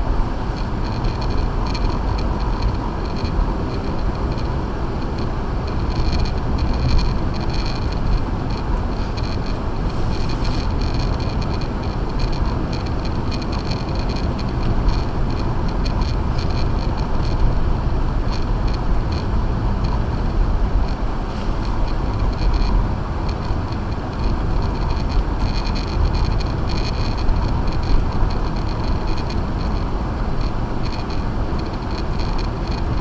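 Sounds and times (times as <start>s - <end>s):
tyre noise on snowy road: 0.0s - 33.0s.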